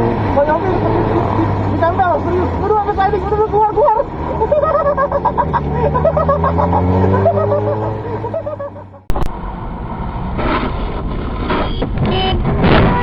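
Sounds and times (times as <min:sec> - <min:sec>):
car engine accelerating: 0:00.0 - 0:13.0
road and traffic noise: 0:00.0 - 0:13.0.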